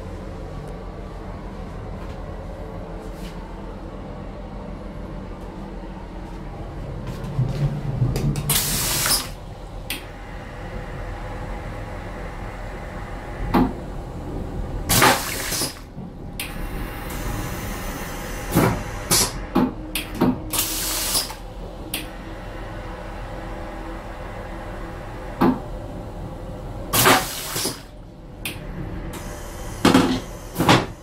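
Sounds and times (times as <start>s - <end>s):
low train hum: 0.0s - 31.0s.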